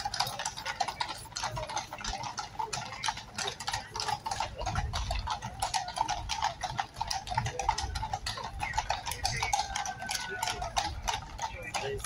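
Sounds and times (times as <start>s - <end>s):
horse hooves clopping on road: 0.0s - 12.0s.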